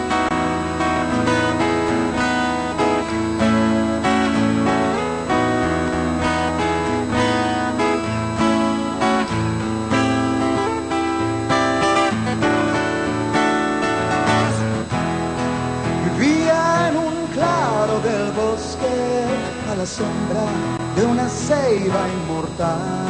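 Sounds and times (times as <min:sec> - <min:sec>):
acoustic guitar playing chords: 0:00.0 - 0:23.0.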